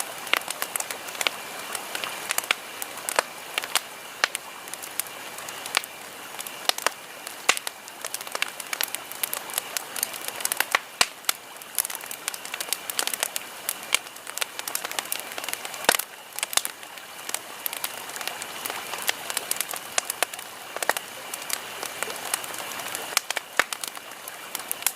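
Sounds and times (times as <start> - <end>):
fire hissing: 0.0 - 24.9
wood crackling and popping: 0.0 - 24.9.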